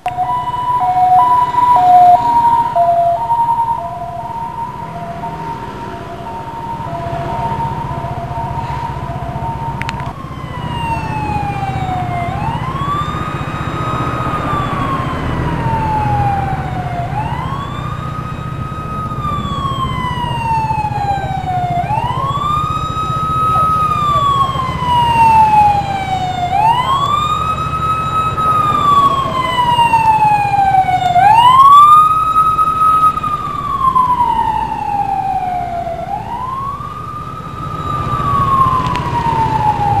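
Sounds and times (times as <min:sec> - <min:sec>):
emergency siren wailing: 0:00.0 - 0:40.0
low vehicle rumble: 0:00.0 - 0:40.0.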